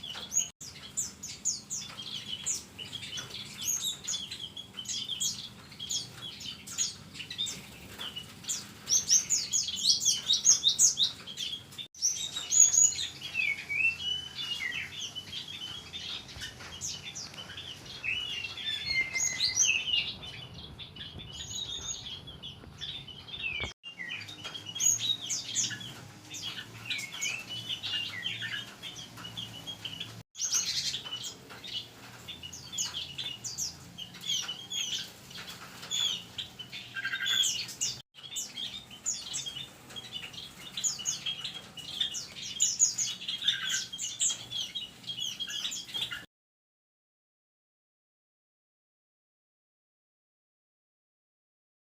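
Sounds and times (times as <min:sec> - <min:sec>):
songbirds chirping and twittering: 0:00.0 - 0:46.3.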